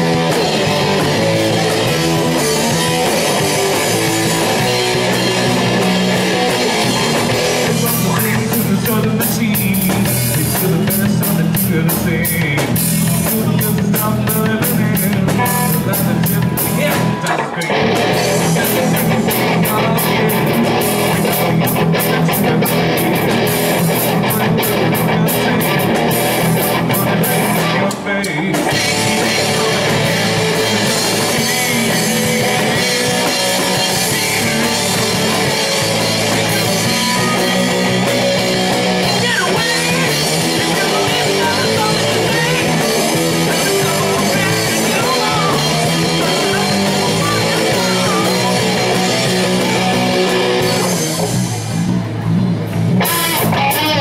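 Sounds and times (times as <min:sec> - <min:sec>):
man singing: 0:00.0 - 0:51.1
live rock band playing: 0:00.0 - 0:54.0.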